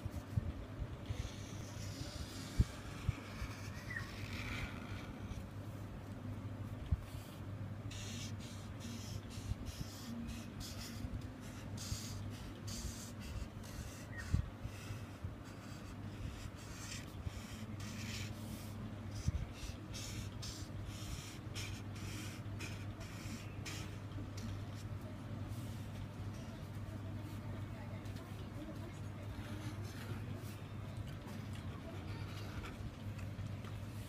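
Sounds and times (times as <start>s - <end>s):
steady low hum: 0.0s - 34.0s
marker scratching on paper: 1.0s - 5.4s, 7.0s - 30.7s, 31.8s - 32.8s.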